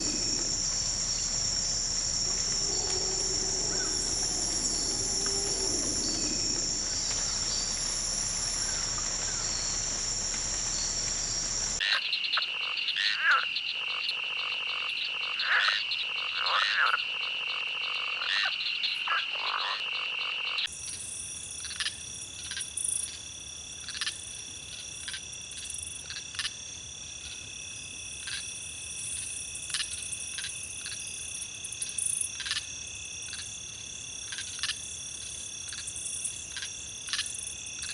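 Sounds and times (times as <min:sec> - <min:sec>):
insect chirps and clicks: 0:00.0 - 0:37.9
insects trilling: 0:00.0 - 0:37.9.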